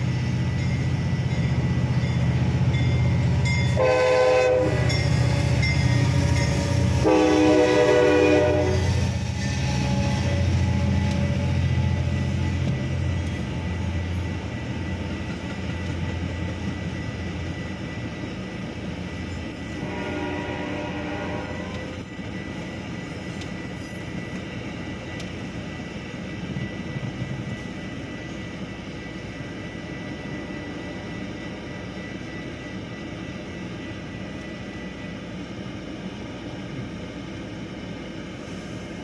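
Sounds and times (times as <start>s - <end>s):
crossing bell ringing: 0.0s - 35.2s
train wheels rumbling on rail: 0.0s - 39.0s.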